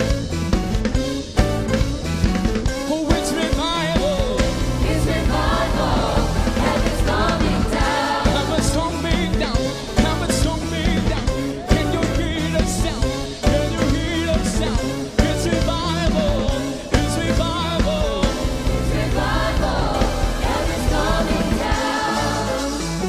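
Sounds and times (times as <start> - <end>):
live band with drum kit: 0.0 - 23.0
choir singing gospel song: 3.3 - 11.8, 12.7 - 23.0.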